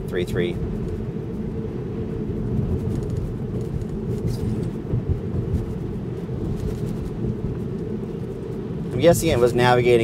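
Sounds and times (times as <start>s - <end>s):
road and tyre rumble: 0.0s - 10.0s.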